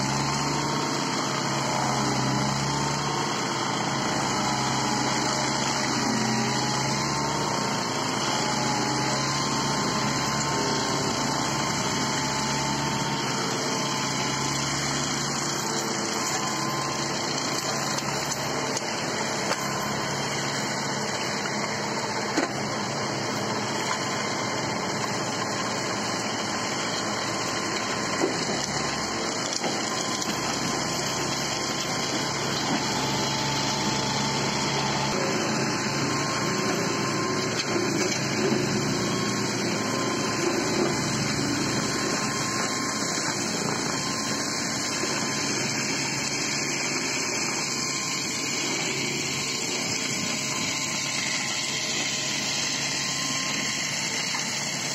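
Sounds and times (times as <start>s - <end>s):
forestry mulcher shredding: 0.0s - 54.9s
tractor engine: 0.0s - 54.9s.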